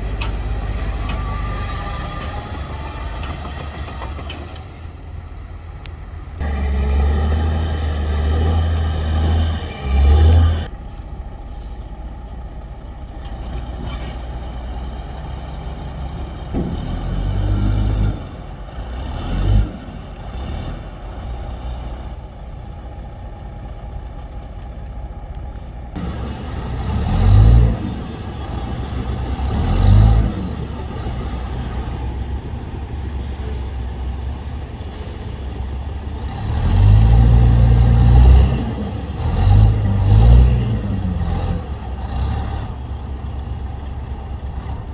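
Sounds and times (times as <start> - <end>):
heavy diesel engines under load: 0.0 - 44.9.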